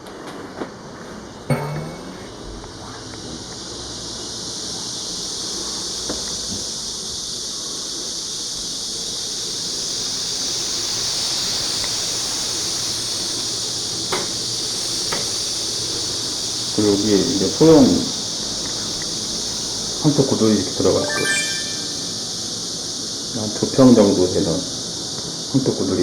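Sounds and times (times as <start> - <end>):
high-pitched insect chorus: 1.2 - 26.0.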